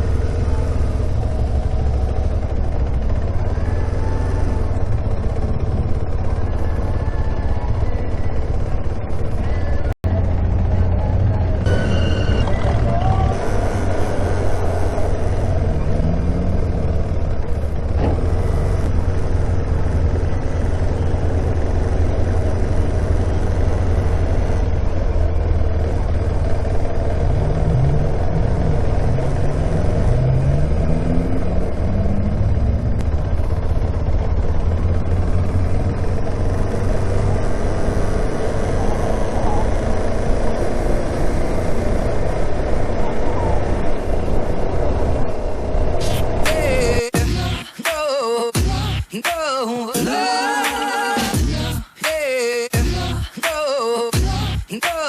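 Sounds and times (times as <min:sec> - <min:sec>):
motorcycle engine running: 0:00.0 - 0:47.6, 0:48.6 - 0:49.1, 0:54.1 - 0:54.6.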